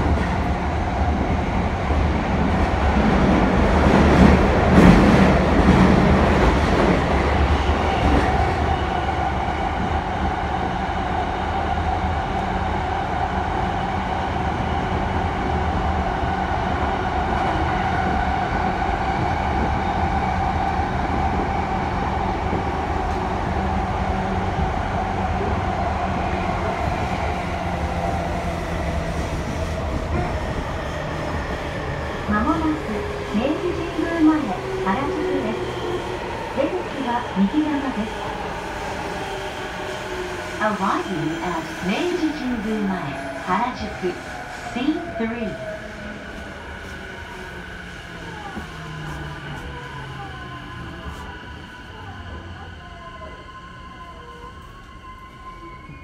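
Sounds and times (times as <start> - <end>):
train wheels rumbling on rail: 0.0 - 53.4.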